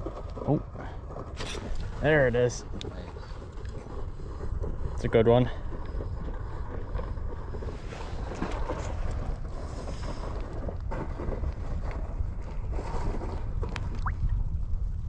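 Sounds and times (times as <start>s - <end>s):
faint scrapes and clicks: 0.0s - 14.0s
wind buffeting microphone: 0.0s - 15.0s.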